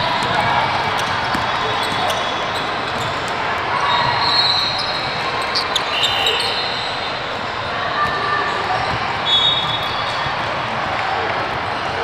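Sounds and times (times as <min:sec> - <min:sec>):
players and spectators noise: 0:00.0 - 0:12.0.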